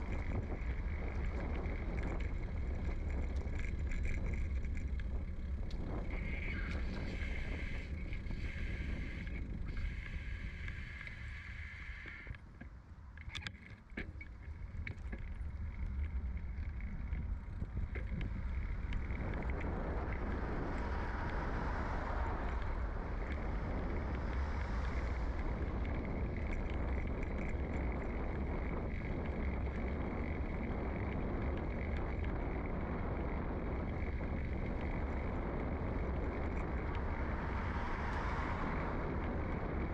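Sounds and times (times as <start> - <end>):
bicycle tyres rolling on asphalt: 0.0 - 39.9
low wind rumble: 0.0 - 39.9.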